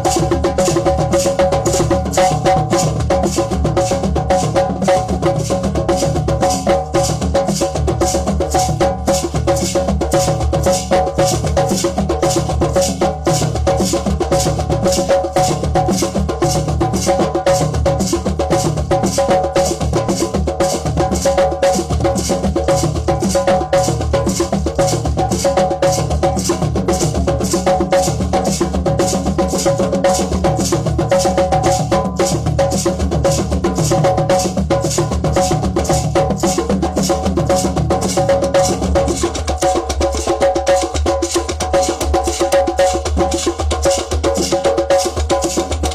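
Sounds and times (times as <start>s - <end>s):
light high percussion: 0.0s - 45.9s.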